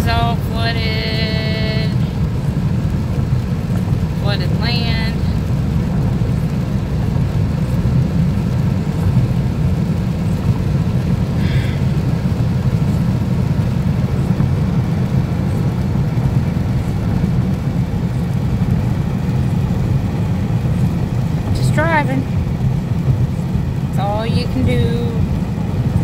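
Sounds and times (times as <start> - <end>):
car driving on wet pavement: 0.0 - 26.0.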